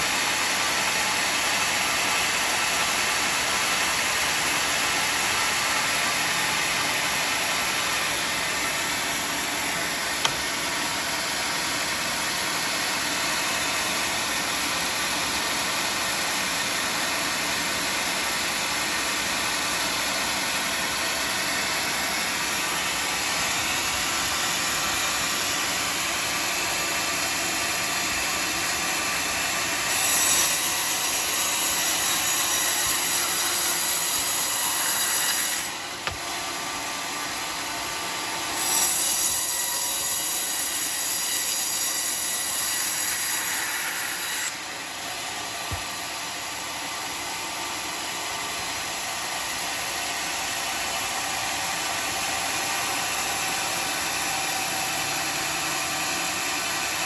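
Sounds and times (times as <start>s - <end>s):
band sawmill cutting log: 0.0s - 57.0s.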